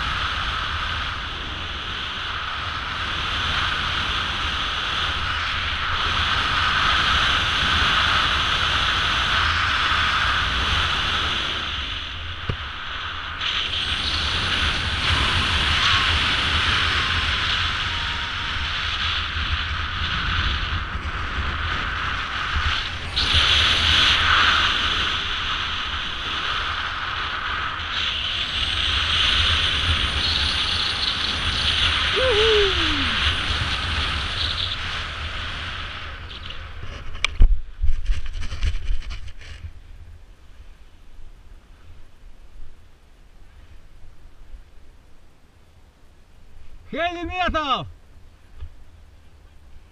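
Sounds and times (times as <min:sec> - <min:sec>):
wind rushing over microphone: 0:00.0 - 0:44.7.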